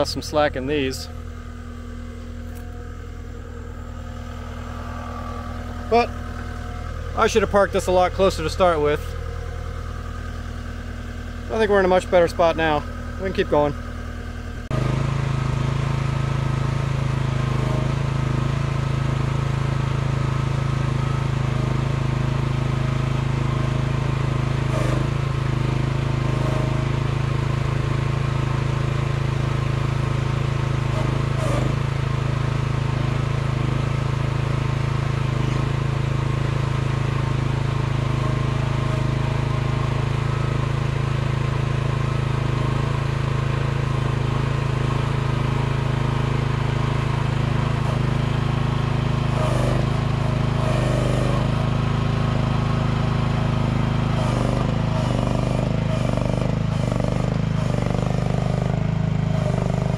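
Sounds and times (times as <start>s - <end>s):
small excavator engine running: 0.0s - 59.9s.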